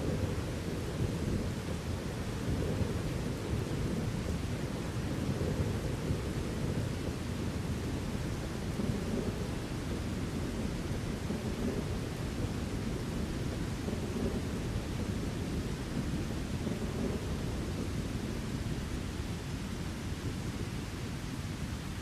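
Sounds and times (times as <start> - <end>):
falling rain: 0.0 - 22.0
low rumble of thunder: 0.0 - 22.0.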